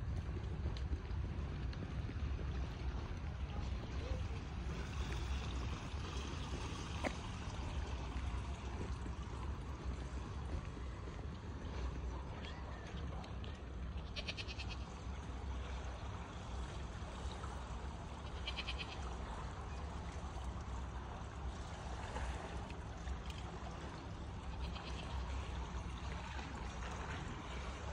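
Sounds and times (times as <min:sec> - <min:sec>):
low outdoor rumble: 0:00.0 - 0:27.9.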